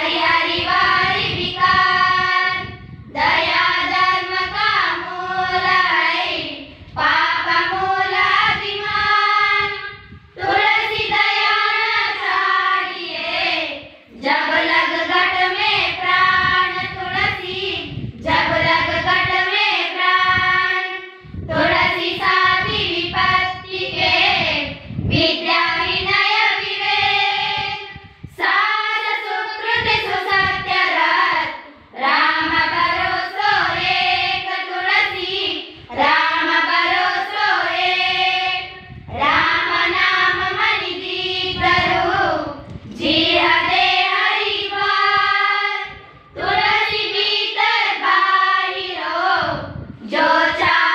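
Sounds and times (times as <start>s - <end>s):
girls singing in unison: 0.0s - 50.9s.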